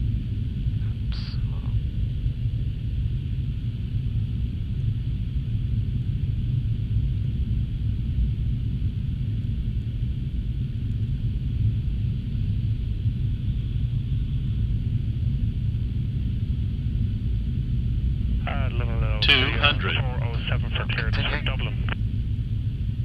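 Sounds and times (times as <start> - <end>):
jet engine and airflow rumble: 0.0 - 23.0.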